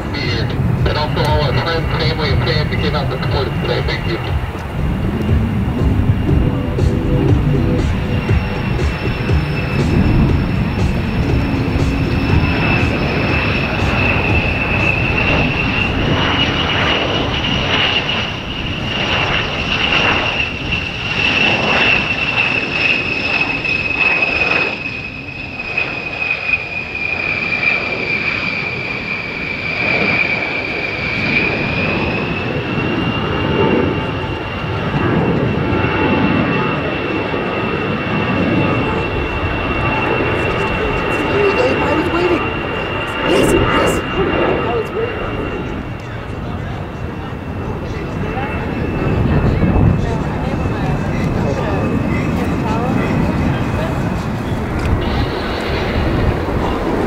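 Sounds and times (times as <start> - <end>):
jet engine whine: 0.0 - 57.0
jet rumble: 0.0 - 57.0.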